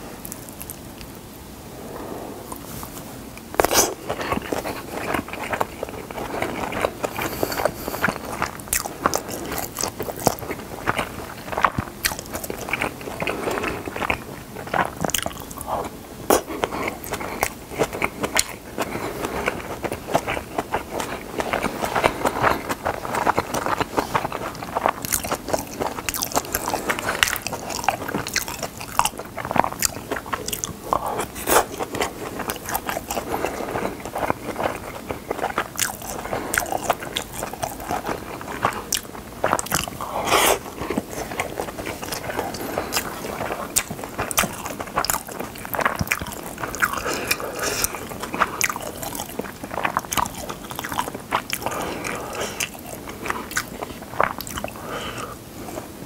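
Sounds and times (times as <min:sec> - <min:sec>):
person chewing food: 0:00.0 - 0:01.2, 0:01.9 - 0:56.0.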